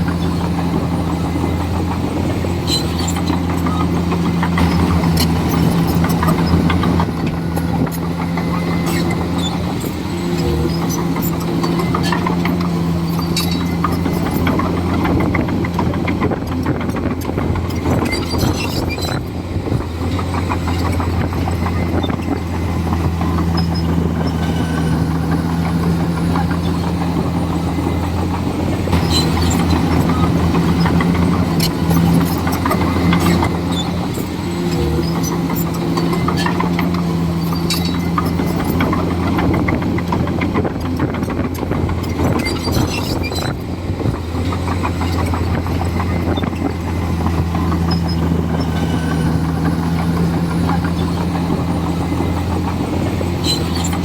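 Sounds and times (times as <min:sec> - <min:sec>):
bulldozer diesel engine running: 0:00.0 - 0:54.0
clanks and clicks: 0:00.0 - 0:54.0.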